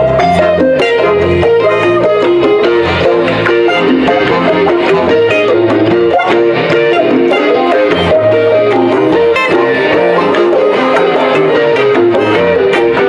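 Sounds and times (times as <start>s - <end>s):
bass guitar: 0.0s - 13.0s
electric guitars: 0.0s - 13.0s
steady drum beat: 0.3s - 13.0s.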